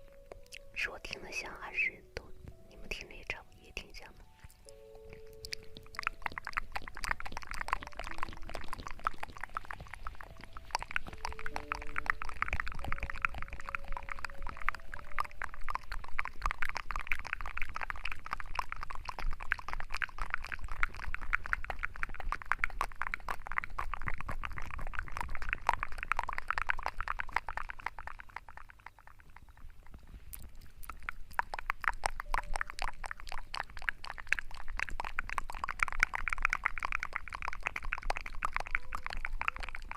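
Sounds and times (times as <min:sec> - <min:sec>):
wet lather crackling: 0:00.0 - 0:39.9.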